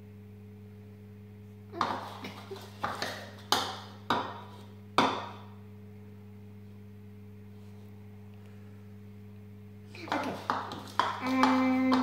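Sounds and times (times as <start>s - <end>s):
low hum: 0.0s - 2.8s, 3.4s - 12.0s.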